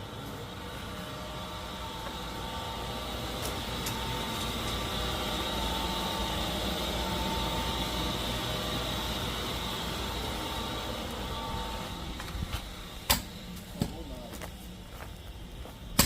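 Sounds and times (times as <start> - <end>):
mechanical hum with whine: 0.0 - 16.0.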